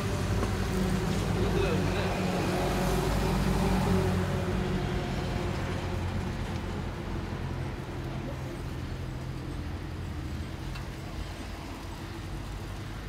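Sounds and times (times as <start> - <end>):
faint street noise hiss: 0.0 - 13.0.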